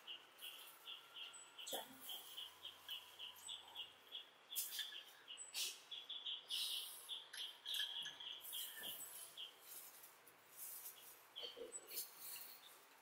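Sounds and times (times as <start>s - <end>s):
faint high chirping: 0.0s - 13.0s.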